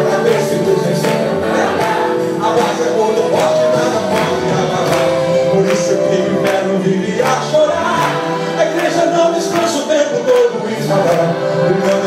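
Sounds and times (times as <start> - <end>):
band playing steady beat: 0.0 - 12.0
man singing into microphone: 0.0 - 12.0.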